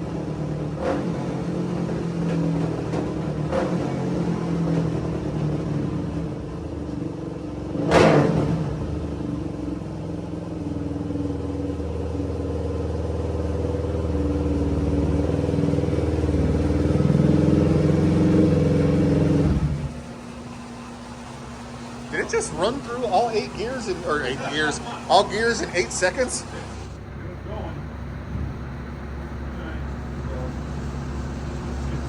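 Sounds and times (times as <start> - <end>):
motorcycle engine running under load: 0.0 - 25.6, 26.5 - 32.0.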